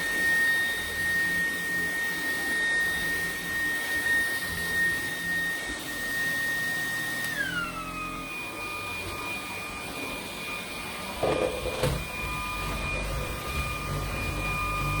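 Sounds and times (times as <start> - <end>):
stick vacuum motor whine: 0.0 - 15.0.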